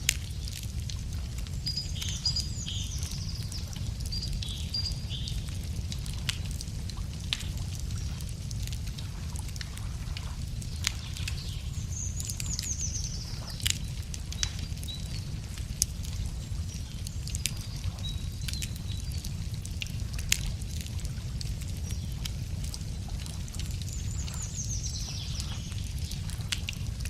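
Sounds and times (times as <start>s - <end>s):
campfire crackling: 0.0s - 27.0s
songbirds chirping: 0.2s - 6.9s, 10.4s - 20.6s, 21.3s - 27.0s.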